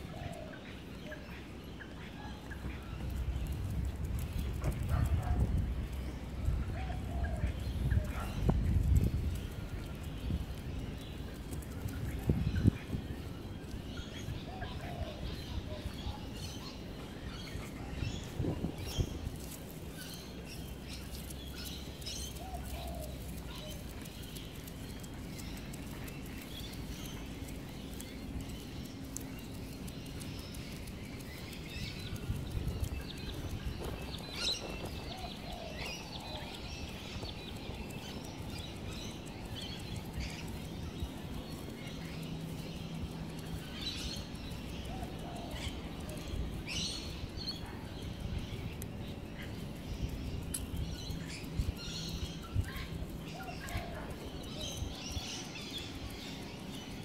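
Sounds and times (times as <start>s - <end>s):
low outdoor rumble: 0.0s - 57.0s
wild birds chirping: 0.0s - 57.0s.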